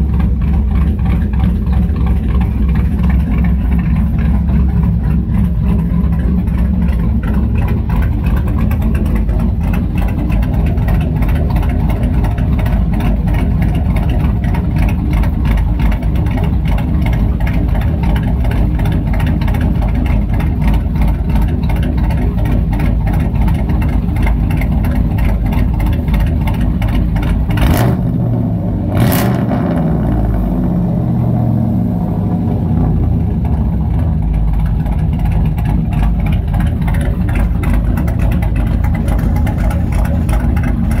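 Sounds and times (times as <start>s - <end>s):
choppy engine idle and rev: 0.0s - 41.0s.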